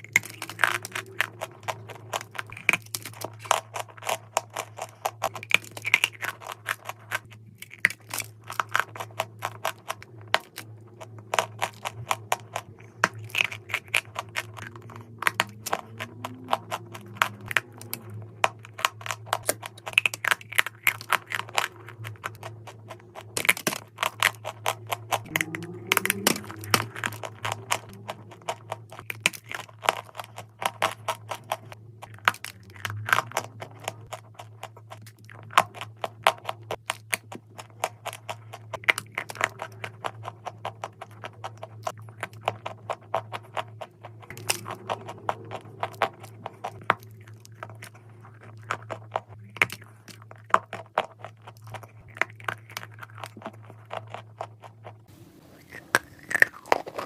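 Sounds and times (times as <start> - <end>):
crunchy clay being chewed: 0.0 - 57.0.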